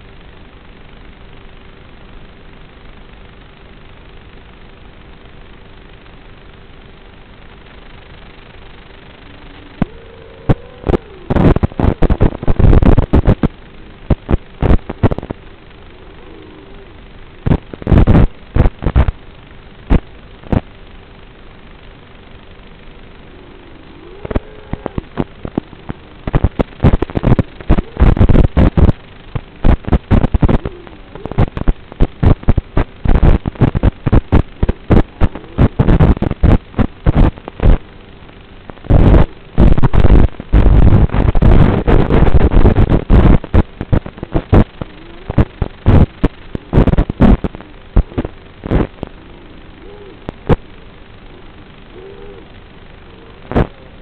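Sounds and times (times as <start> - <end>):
crackling and popping bursts: 0.0 - 54.0
faint motor whine: 0.0 - 54.0
steady hiss: 0.0 - 54.0.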